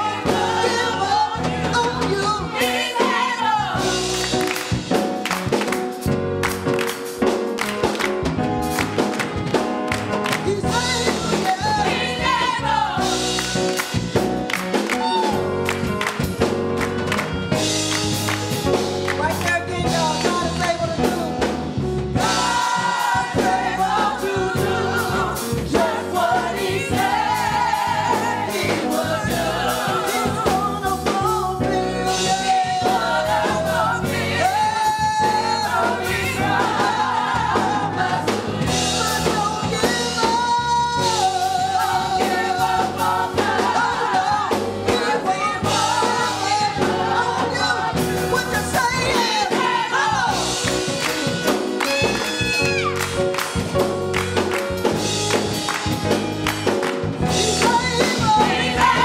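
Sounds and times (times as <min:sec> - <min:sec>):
gospel choir singing: 0:00.0 - 0:59.0
keyboard accompaniment: 0:00.0 - 0:59.0.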